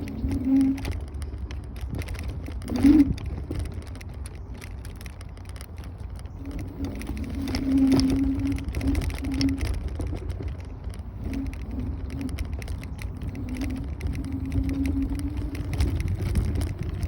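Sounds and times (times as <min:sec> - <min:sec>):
low hum: 0:00.0 - 0:17.0
road rumble: 0:00.0 - 0:17.0
wind: 0:00.0 - 0:17.0.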